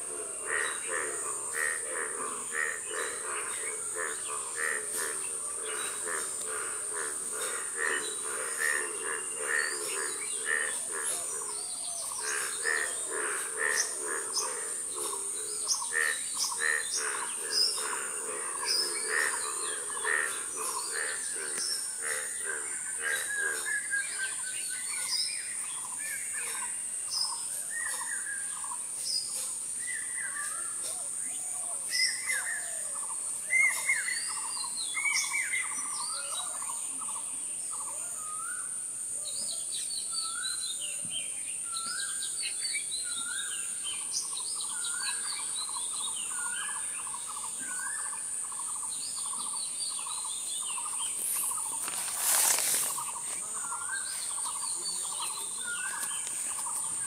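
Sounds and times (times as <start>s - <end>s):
birds calling and singing: 0.0s - 57.0s.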